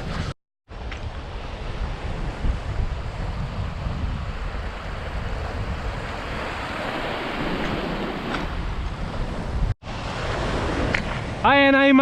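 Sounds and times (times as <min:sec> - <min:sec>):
wind buffeting microphone: 0:00.0 - 0:11.5
ocean surf washing on shore: 0:00.7 - 0:12.0.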